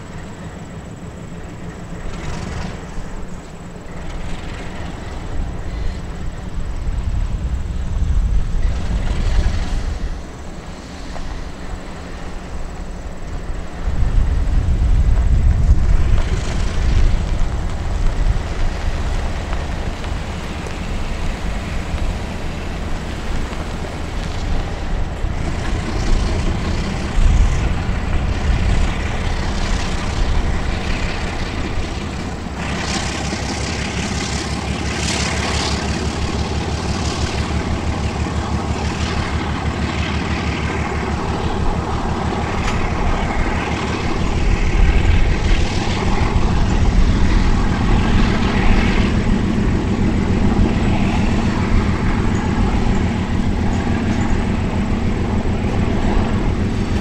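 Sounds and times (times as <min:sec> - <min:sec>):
diesel locomotive engine rumbling: 0:00.0 - 0:57.0
train wheels rattling and hissing: 0:00.0 - 0:57.0.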